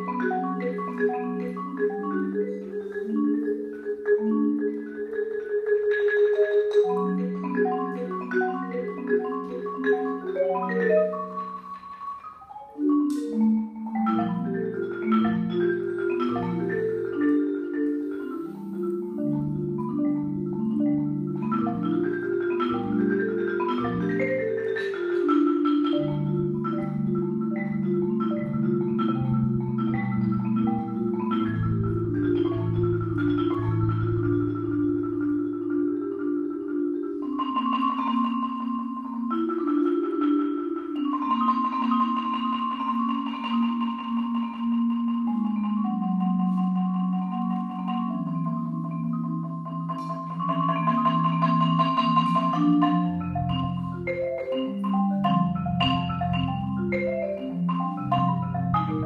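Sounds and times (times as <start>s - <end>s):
marimba played with mallets: 0.0s - 59.0s.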